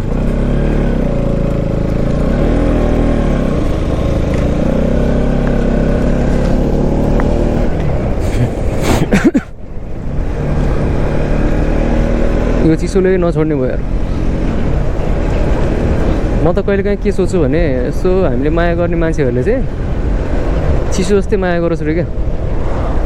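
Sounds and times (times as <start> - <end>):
motorcycle engine running: 0.0 - 8.2, 9.7 - 21.1.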